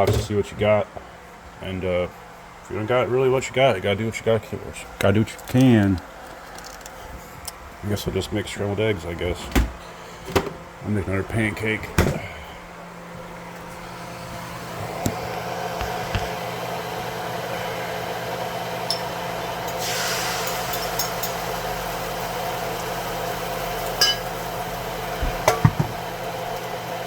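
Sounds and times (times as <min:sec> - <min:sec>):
steady stovetop hum: 0:00.0 - 0:27.0.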